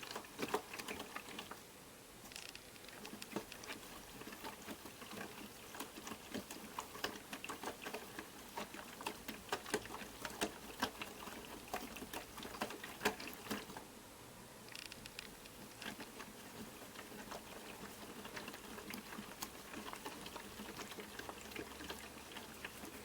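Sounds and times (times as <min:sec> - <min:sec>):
water sloshing in washing machine: 0:00.0 - 0:01.8, 0:02.8 - 0:13.9, 0:15.3 - 0:23.0.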